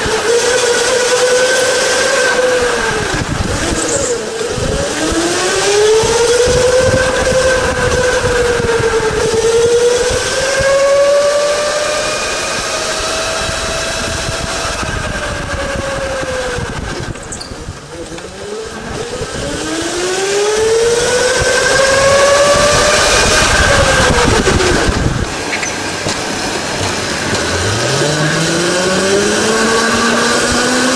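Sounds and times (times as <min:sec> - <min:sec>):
electric go-kart motor whining: 0:00.0 - 0:30.9.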